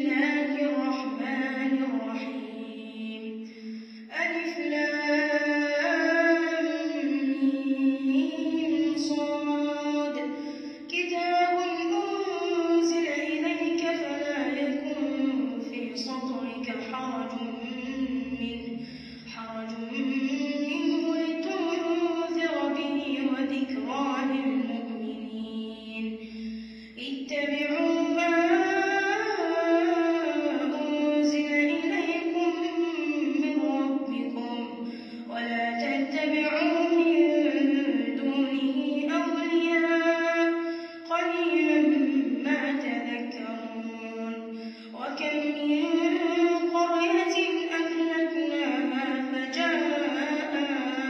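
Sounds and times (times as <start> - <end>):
boy chanting melodically: 0.0 - 51.0.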